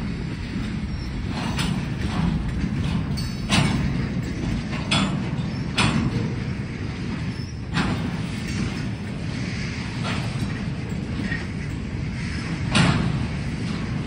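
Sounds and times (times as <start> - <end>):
freight train rumble: 0.0 - 14.0
metallic clanks and squeaks: 0.6 - 14.0.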